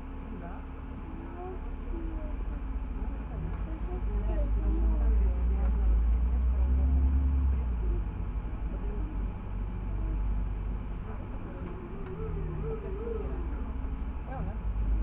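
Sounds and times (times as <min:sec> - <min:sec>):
bus engine rumble from inside: 0:00.0 - 0:15.0.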